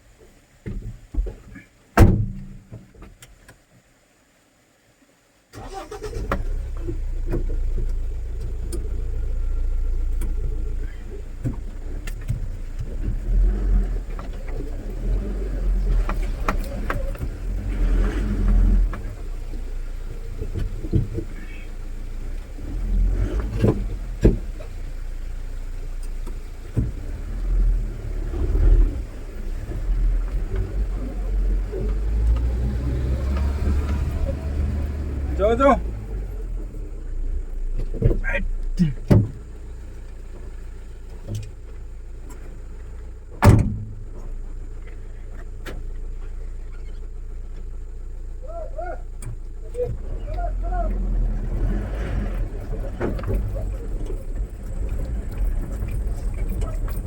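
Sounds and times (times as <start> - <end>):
pickup truck engine running: 5.6 - 57.0.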